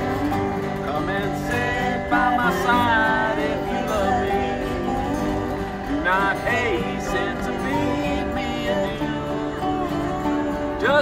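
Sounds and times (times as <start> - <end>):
resonator guitar sliding notes: 0.0 - 11.0
strummed acoustic guitars: 0.0 - 11.0.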